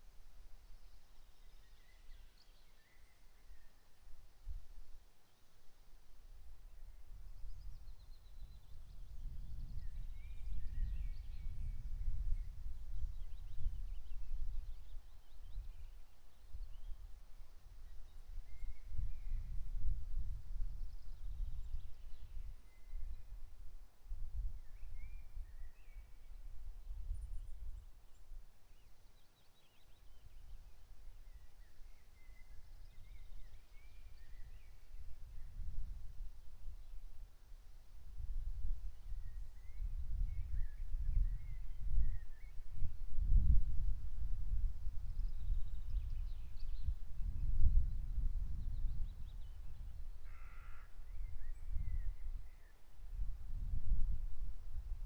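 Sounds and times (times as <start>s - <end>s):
songbirds singing faintly: 0.0s - 55.0s.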